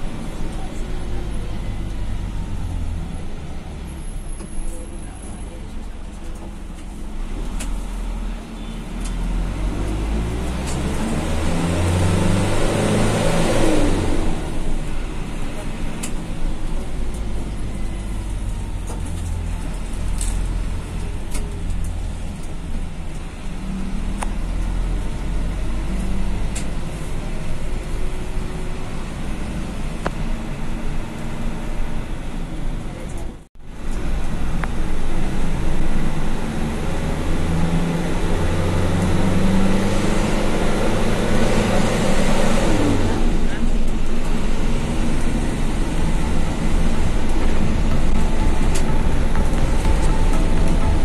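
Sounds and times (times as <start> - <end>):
bus engine hum: 0.0 - 51.0
road noise: 0.0 - 51.0.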